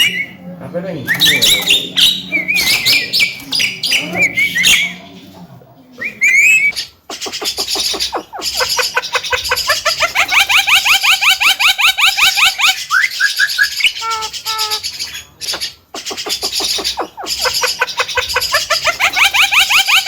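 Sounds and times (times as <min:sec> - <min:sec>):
myna whistling and squeaking: 0:00.0 - 0:00.5, 0:01.1 - 0:05.2, 0:06.0 - 0:20.0.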